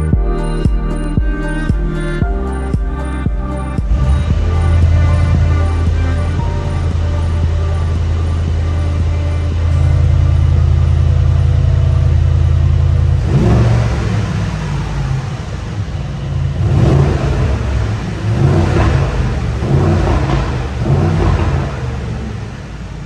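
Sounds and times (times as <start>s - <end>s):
car exhaust droning: 0.0s - 23.0s
engine revving: 0.9s - 23.0s.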